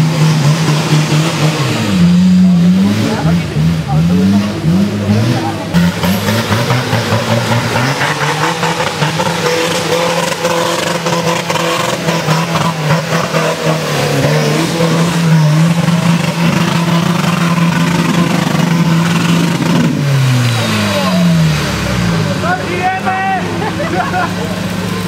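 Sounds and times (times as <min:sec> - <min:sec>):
off-road engine at high revs: 0:00.0 - 0:25.0.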